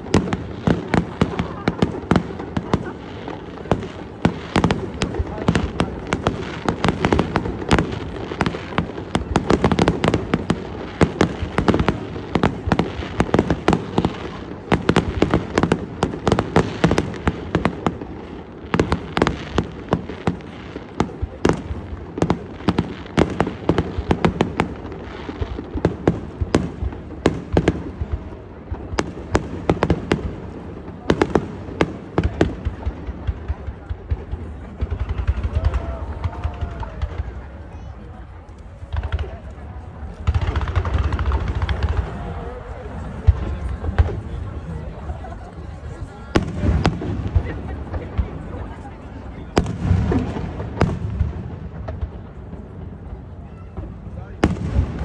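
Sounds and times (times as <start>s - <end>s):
fireworks bangs and pops: 0.0s - 55.0s.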